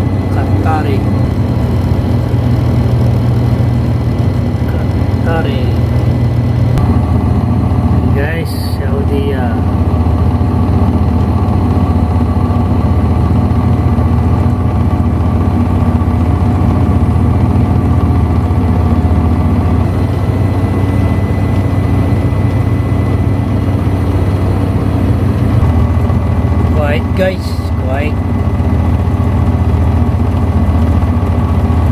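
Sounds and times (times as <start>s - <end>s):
engine hum with low drone: 0.0s - 31.9s.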